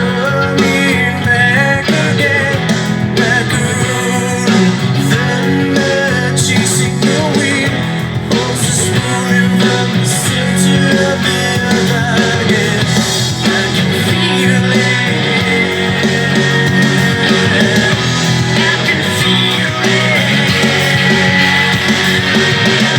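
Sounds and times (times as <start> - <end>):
electric guitar: 0.0 - 22.9
person singing: 0.0 - 22.9.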